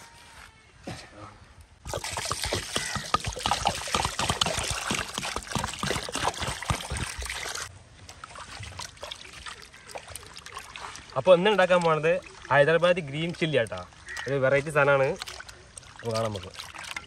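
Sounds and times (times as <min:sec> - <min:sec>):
water pouring into metal basin: 0:01.8 - 0:07.7, 0:08.4 - 0:17.0
water sloshing: 0:01.8 - 0:17.0.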